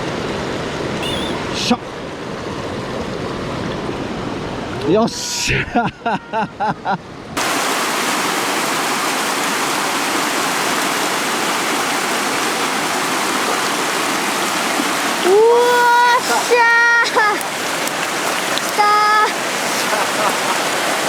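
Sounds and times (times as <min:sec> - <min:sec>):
stream water rushing: 0:00.0 - 0:05.0, 0:07.4 - 0:21.0.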